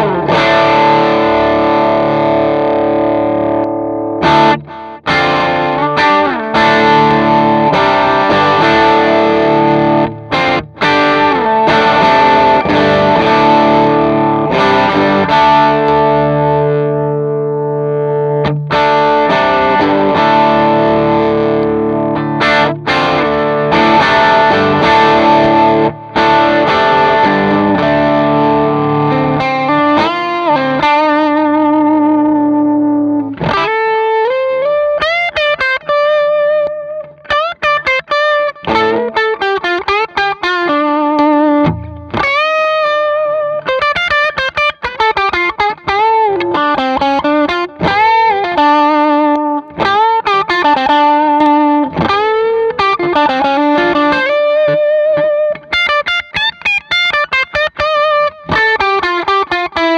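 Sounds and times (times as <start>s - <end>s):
electric guitar chord ringing: 0.0s - 59.9s
electric guitar lead line with bends: 0.0s - 59.9s.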